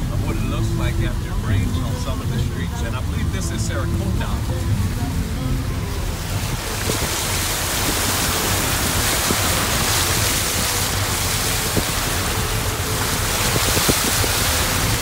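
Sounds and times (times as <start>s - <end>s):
low vehicle rumble: 0.0s - 15.0s
tyres splashing through water: 0.0s - 15.0s.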